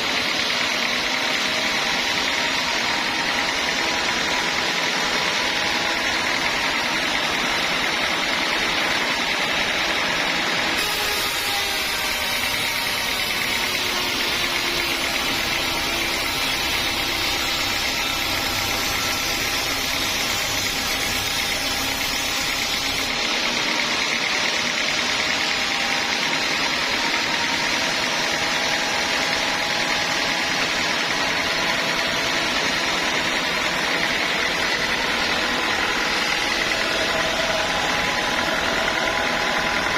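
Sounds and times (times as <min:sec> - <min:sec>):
band sawmill sawing a log: 0:00.0 - 0:39.9.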